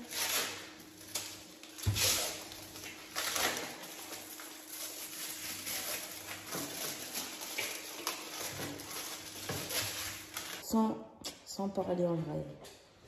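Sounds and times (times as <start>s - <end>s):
wrapper crinkling and tearing: 0.0s - 10.6s.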